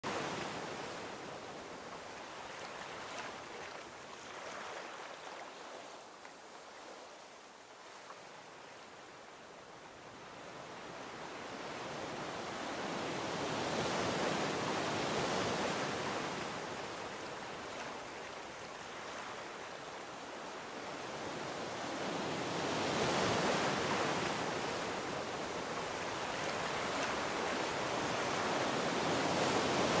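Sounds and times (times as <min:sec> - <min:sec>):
ocean waves on a shore: 0:00.0 - 0:30.0.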